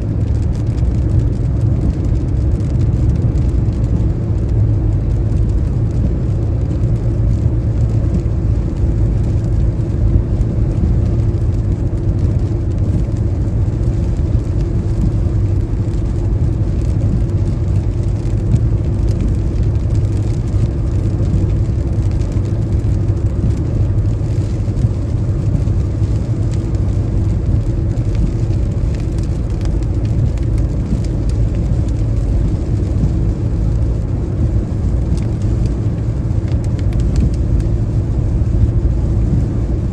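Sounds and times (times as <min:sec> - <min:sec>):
rain noise: 0:00.0 - 0:39.9
tyres and engine rumbling: 0:00.0 - 0:39.9.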